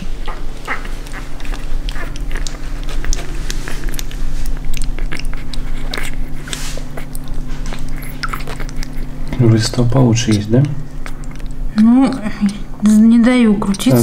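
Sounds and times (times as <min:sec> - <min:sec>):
puppy chewing wet clicks: 0:00.0 - 0:14.0
steady low hum: 0:00.0 - 0:14.0.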